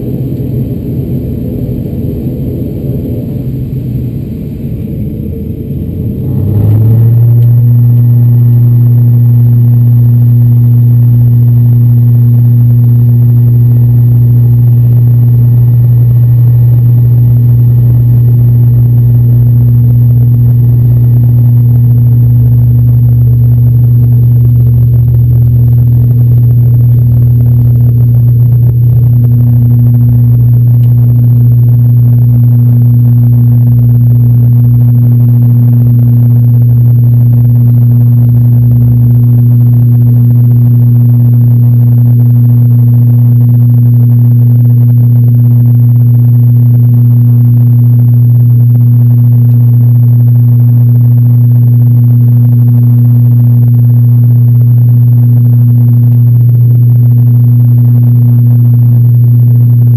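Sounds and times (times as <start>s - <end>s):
turboprop engine drone: 0.0s - 59.9s
wheels rumbling on runway: 0.0s - 59.9s.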